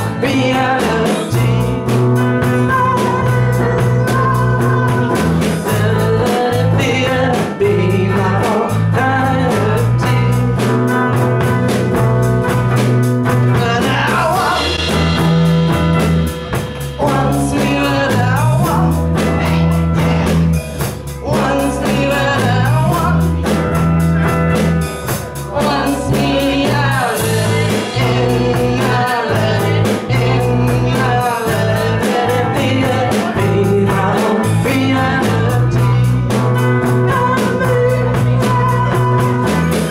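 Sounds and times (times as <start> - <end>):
women singing: 0.0 - 12.1, 13.5 - 15.4, 17.0 - 20.6, 21.2 - 23.4, 25.4 - 39.9
drums with steady beat: 0.0 - 39.9
electric guitars: 0.0 - 39.9.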